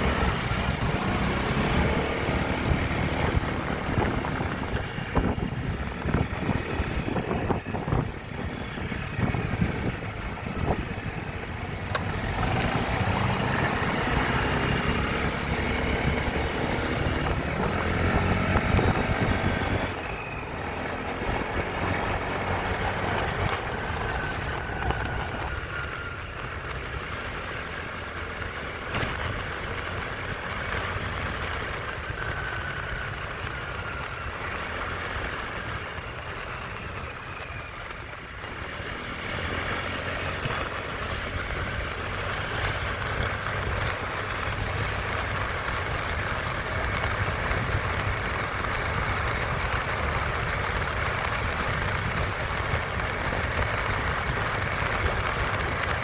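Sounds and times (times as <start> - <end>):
motorcycle engine running: 0.0 - 56.0
road traffic: 0.0 - 56.0.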